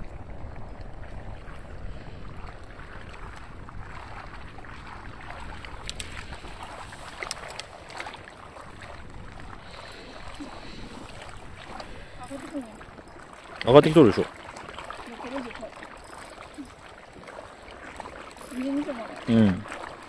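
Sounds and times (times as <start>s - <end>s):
wind buffeting microphone: 0.0s - 17.2s
water lapping against wall: 0.0s - 20.0s.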